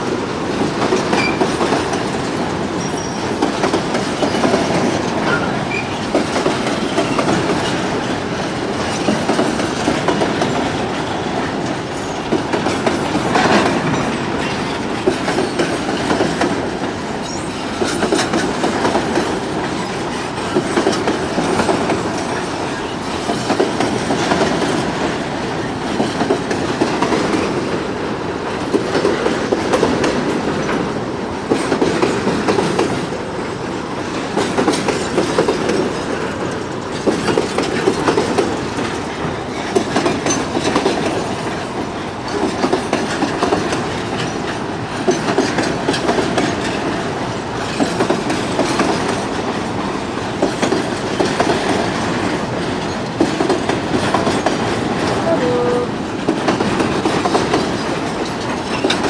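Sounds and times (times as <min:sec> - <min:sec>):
freight train rumbling past: 0:00.0 - 0:59.0
wheels clacking over rail joints: 0:00.0 - 0:59.0.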